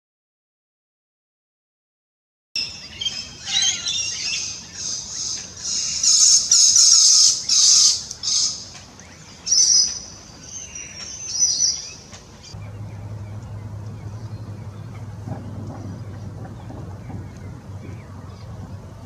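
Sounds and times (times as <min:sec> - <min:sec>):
birds calling harshly: 0:02.6 - 0:19.0.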